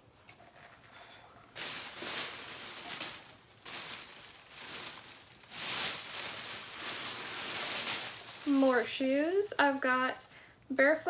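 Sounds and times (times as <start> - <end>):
rustling of rummaged items: 0.2 - 9.8.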